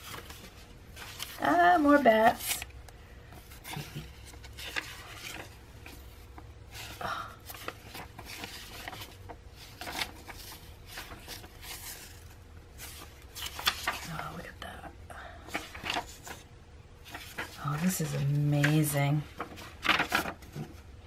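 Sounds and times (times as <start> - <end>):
paper sheets rustling: 0.0 - 2.7, 3.3 - 14.5, 15.5 - 20.9.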